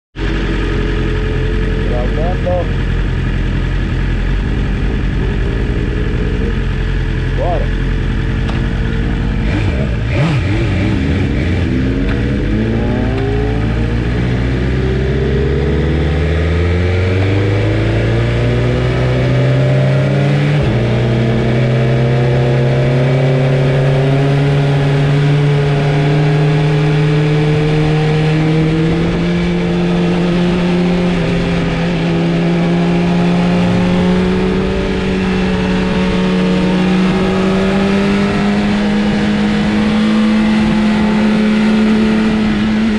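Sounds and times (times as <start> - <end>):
motorcycle engine accelerating: 0.2 - 42.9.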